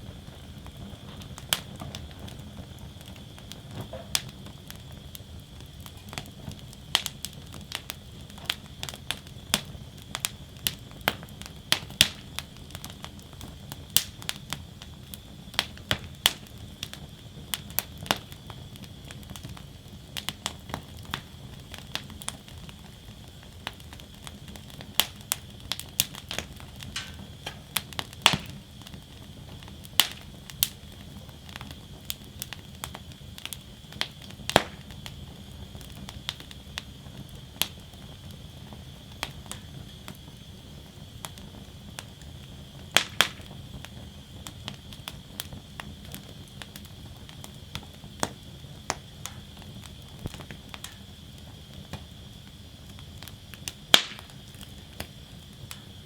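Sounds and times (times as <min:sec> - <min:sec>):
fire crackling and popping: 0:00.0 - 0:56.0
flames rushing and hissing: 0:00.0 - 0:56.0.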